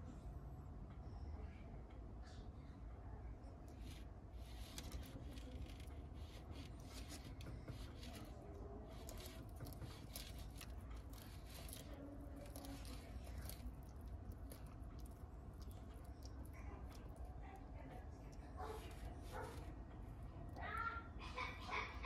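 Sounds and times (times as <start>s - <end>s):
lizards chewing leafy greens: 3.7s - 22.0s.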